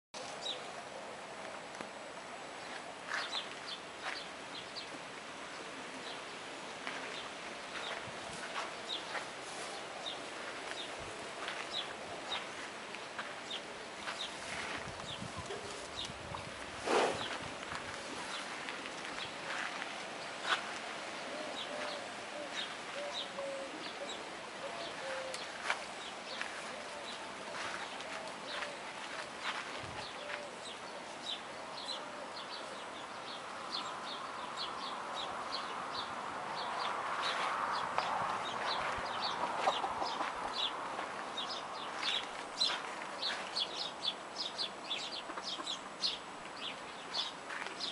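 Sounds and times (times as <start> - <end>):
background hiss: 0.2 - 47.9
birds calling: 7.0 - 47.9.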